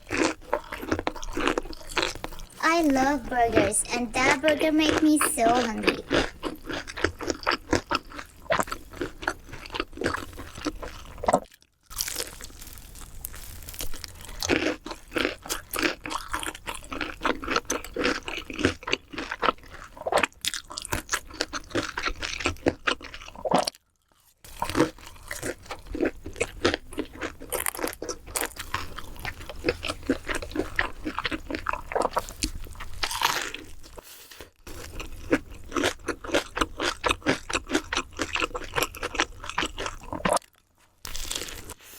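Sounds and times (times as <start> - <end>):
crunchy food being chewed: 0.0 - 2.6, 4.9 - 41.9.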